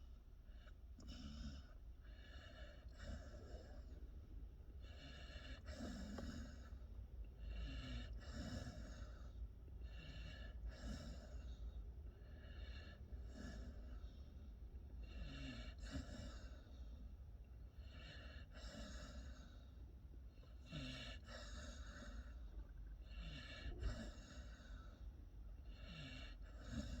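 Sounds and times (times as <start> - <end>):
puppy snoring: 0.4 - 4.1, 4.7 - 14.2, 15.0 - 17.0, 17.7 - 19.8, 20.4 - 27.0.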